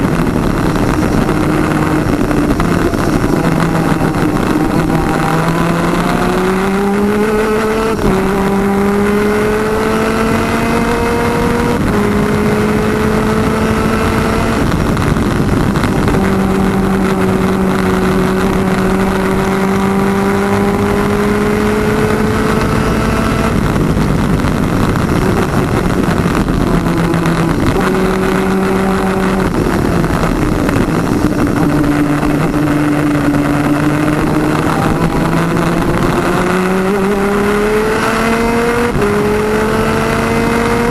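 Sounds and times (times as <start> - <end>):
kart engine at racing speed: 0.0 - 40.9.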